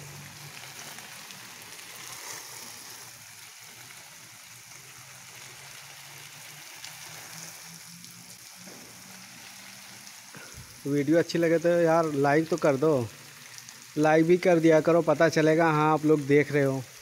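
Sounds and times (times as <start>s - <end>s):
hose water splashing on leaves: 0.0s - 17.0s.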